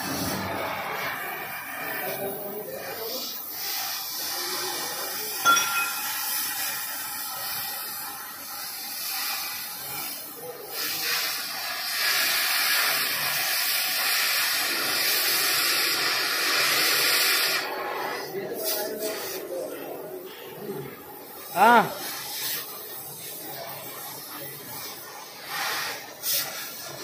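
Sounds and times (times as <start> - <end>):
cutting torch hissing: 0.0 - 27.0.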